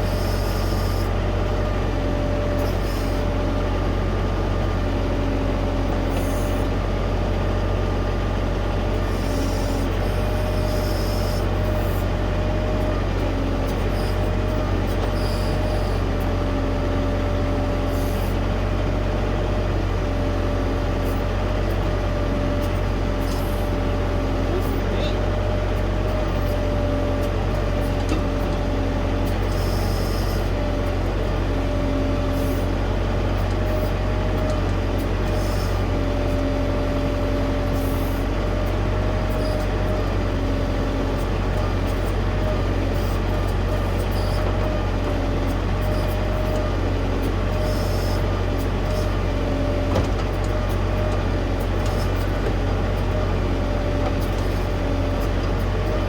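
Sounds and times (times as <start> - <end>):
hydraulic whine: 0.0 - 7.6, 8.8 - 56.0
diesel tractor engine running: 0.0 - 56.0.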